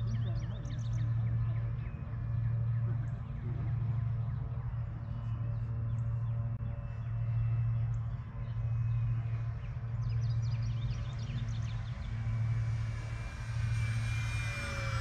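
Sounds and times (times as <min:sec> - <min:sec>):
low steady hum: 0:00.0 - 0:15.0
model plane motor whine flying past: 0:00.0 - 0:15.0.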